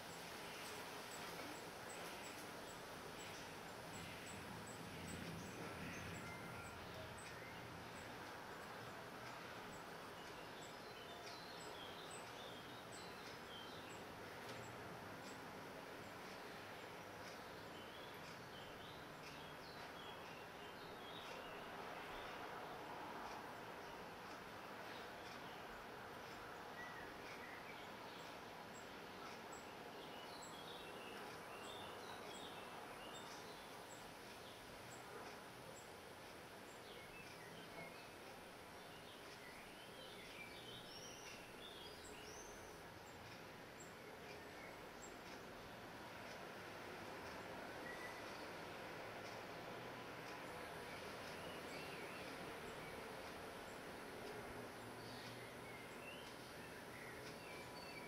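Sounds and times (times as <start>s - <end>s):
faint background hiss: 0.0s - 58.0s.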